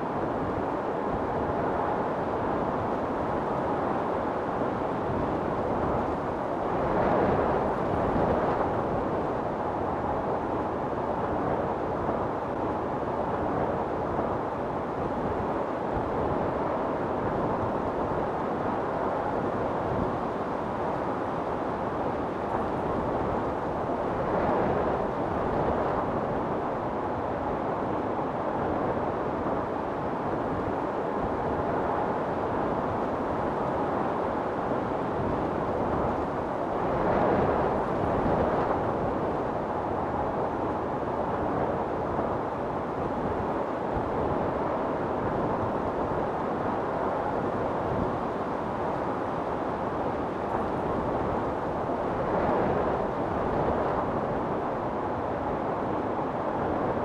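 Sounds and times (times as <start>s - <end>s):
wind storm blowing: 0.0s - 57.0s.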